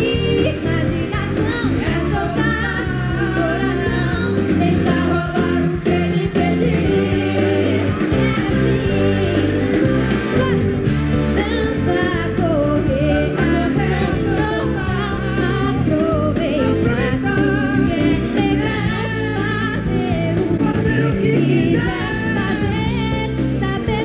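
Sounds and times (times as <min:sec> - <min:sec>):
pop band playing: 0:00.0 - 0:24.0
woman singing: 0:00.0 - 0:24.0.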